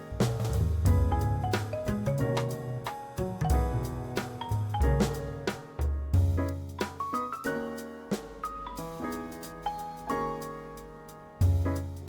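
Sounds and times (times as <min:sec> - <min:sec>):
piano notes: 0:00.0 - 0:12.0
soft accompaniment: 0:00.0 - 0:12.0.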